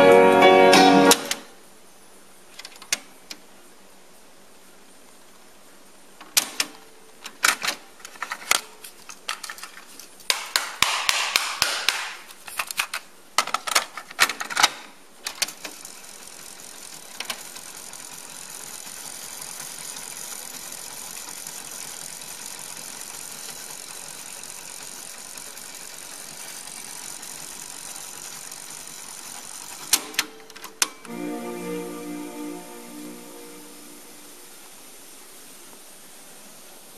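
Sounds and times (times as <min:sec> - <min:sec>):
tape hiss: 0:00.0 - 0:36.9.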